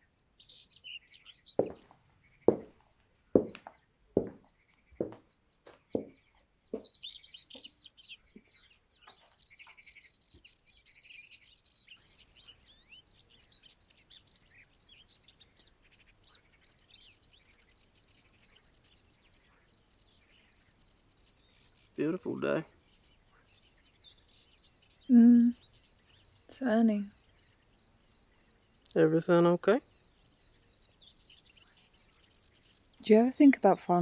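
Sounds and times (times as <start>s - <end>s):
birds chirping and singing: 0.0s - 34.0s.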